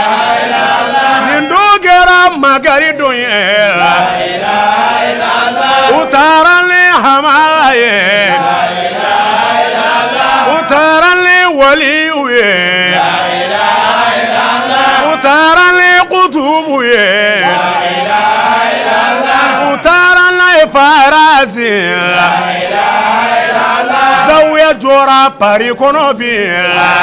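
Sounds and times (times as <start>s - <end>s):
lead male voice singing long notes: 0.0s - 9.1s, 10.2s - 27.0s
men chanting devotional song: 0.0s - 27.0s.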